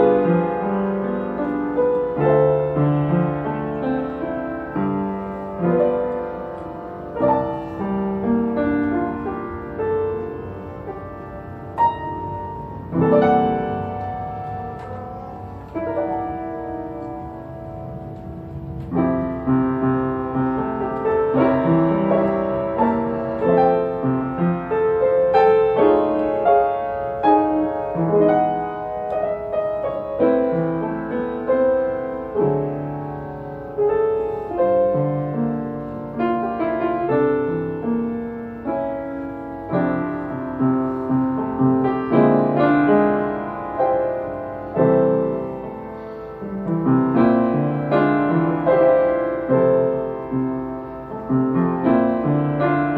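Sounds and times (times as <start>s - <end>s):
solo jazz piano ballad: 0.0s - 52.9s.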